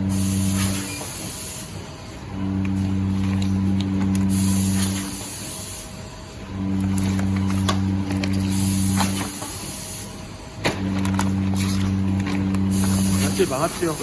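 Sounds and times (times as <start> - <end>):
packing machine hum: 0.0 - 14.0.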